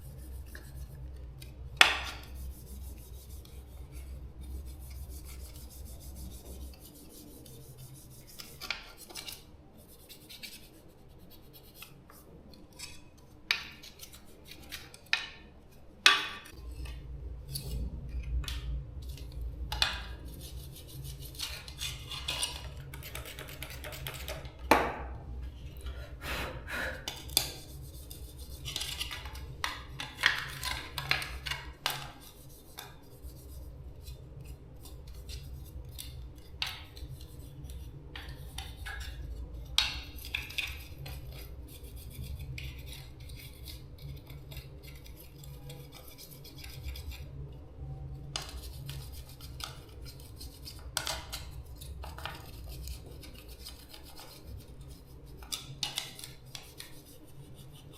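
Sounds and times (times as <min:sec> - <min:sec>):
scraping and rubbing: 0:00.0 - 0:26.2, 0:27.0 - 0:47.4, 0:48.4 - 0:57.9.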